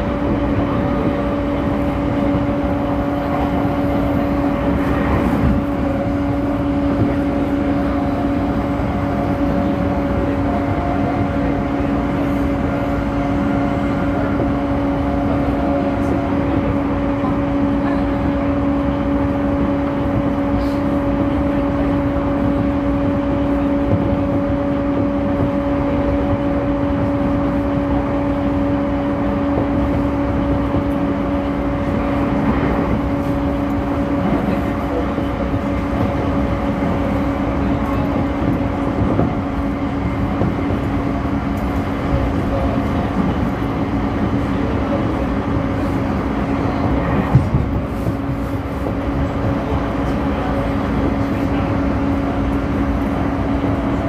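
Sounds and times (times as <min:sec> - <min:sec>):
train rolling noise: 0:00.0 - 0:54.0.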